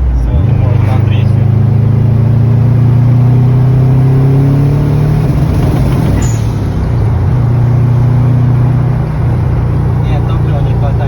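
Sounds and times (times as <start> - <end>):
car engine under load: 0.0 - 11.0.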